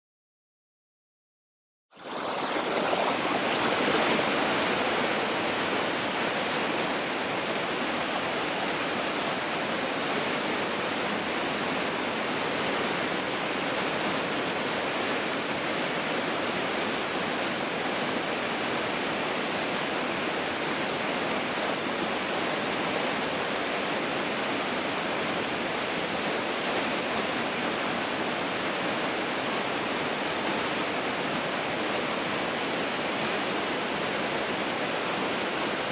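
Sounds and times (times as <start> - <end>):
waterfall rushing: 2.0 - 35.9.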